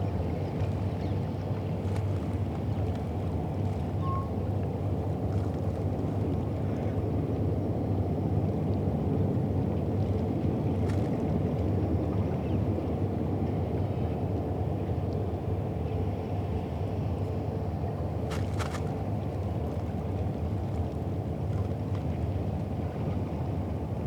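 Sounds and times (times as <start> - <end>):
boat engine rumble: 0.0 - 24.0.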